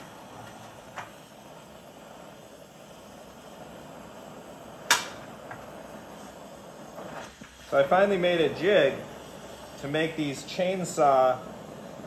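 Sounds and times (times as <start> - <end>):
cutting torch flame hissing: 0.0 - 12.0.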